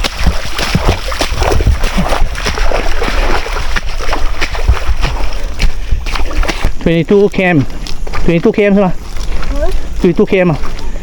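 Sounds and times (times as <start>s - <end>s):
wading through muddy water: 0.0s - 11.0s.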